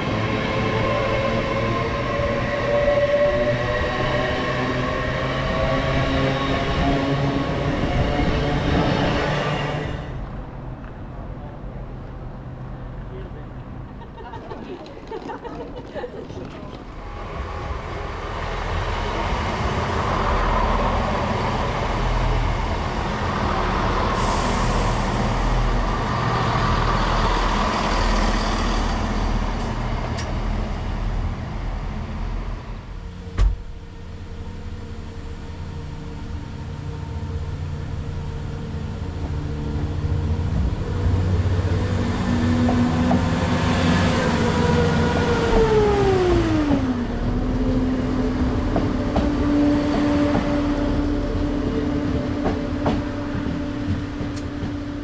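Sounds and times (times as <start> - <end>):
diesel train rumbling past: 0.0 - 55.0.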